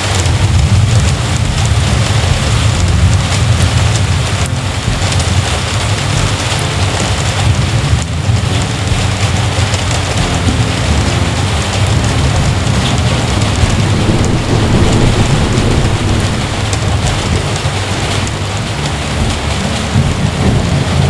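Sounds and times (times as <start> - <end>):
heavy rain falling: 0.0 - 21.0
low rumble of thunder: 0.0 - 21.0.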